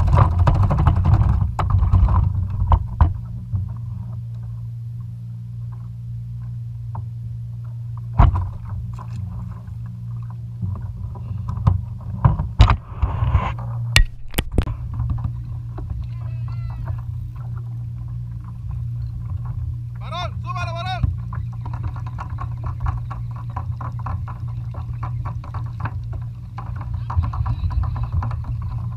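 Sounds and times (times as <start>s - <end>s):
wind and water rumble: 0.0s - 28.9s.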